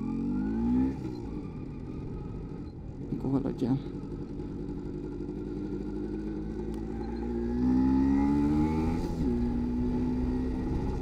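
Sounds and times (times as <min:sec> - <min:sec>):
two-stroke motorcycle engine accelerating: 0:00.0 - 0:11.0.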